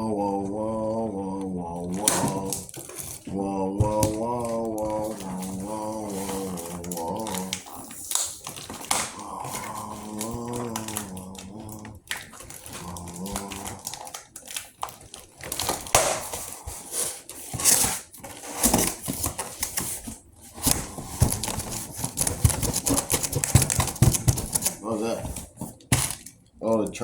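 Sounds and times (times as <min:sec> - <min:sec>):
packaging rustling and tearing: 0:01.8 - 0:26.5.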